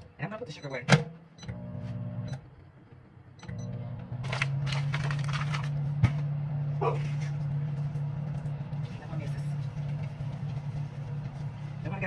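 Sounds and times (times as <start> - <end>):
microwave oven humming: 1.0 - 2.6, 3.4 - 12.0.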